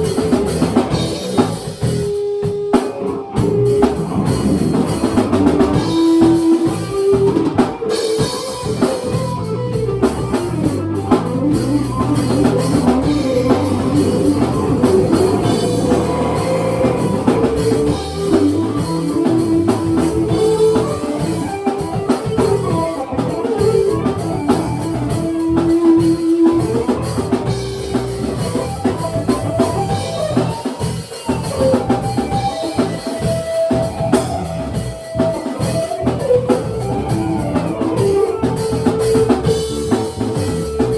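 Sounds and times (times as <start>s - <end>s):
drum kit beat: 0.0s - 40.9s
live band jamming: 0.0s - 40.9s.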